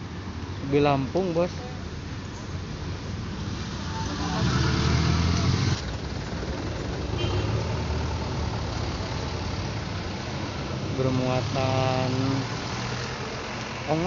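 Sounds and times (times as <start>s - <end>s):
steady engine hum: 0.0s - 14.0s
vehicle passing: 2.6s - 14.0s.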